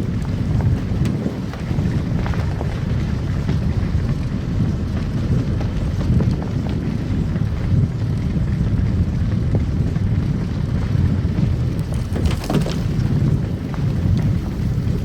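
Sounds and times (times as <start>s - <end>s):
car driving on snow: 0.0s - 15.0s
small crackles and knocks: 0.0s - 15.0s.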